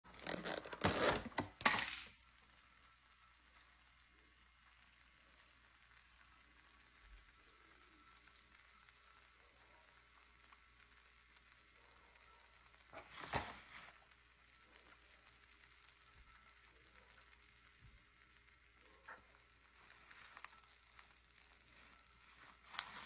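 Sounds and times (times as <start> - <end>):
faint steady hiss: 1.6 - 23.0.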